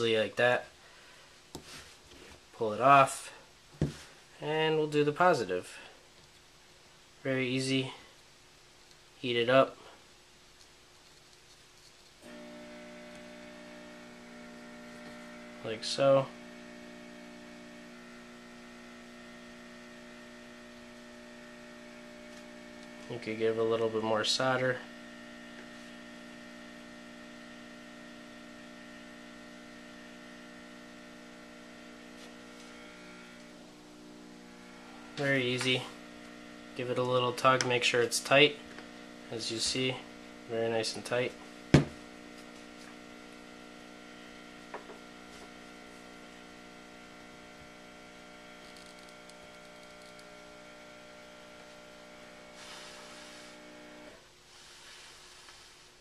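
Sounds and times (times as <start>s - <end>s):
low electrical mains hum: 0.0s - 56.0s.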